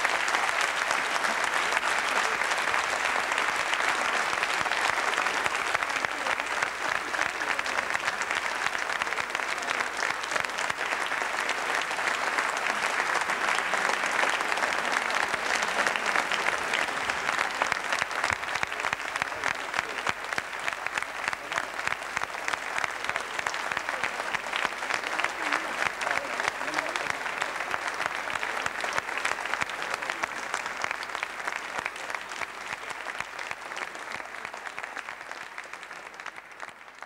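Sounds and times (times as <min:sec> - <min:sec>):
large audience applauding: 0:00.0 - 0:37.0.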